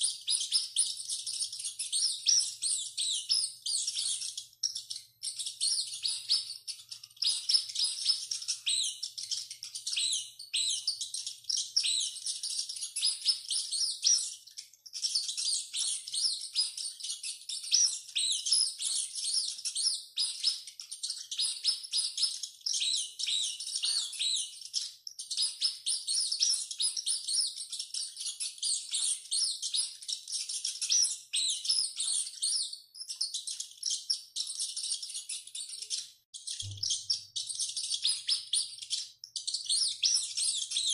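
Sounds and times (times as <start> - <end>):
rats squeaking: 0.0 - 40.9.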